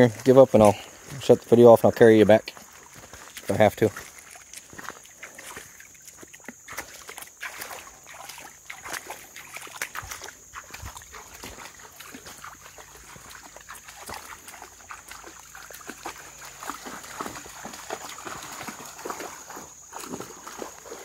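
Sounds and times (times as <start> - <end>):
dogs splashing through water: 0.0 - 21.0.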